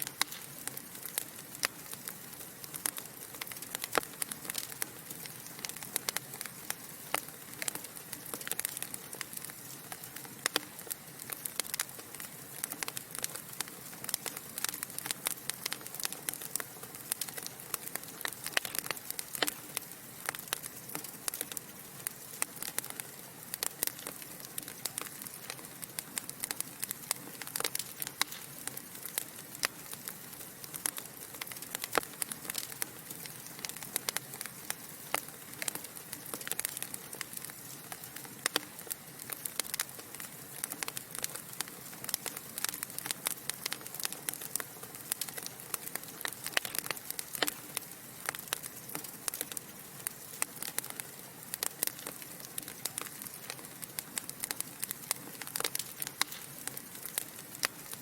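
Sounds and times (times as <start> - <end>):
burning logs crackling: 0.0 - 58.0
soft fire hiss: 0.0 - 58.0.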